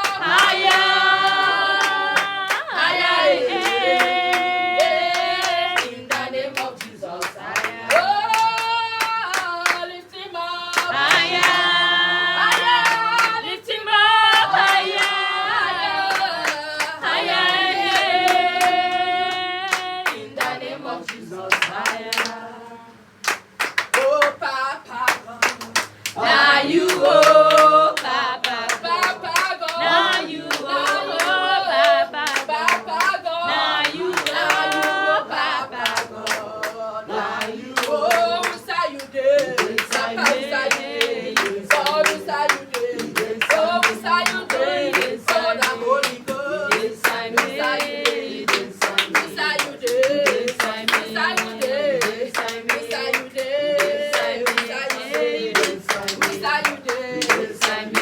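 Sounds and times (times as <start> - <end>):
people singing together: 0.0 - 58.0
rhythmic hand clapping: 0.0 - 58.0.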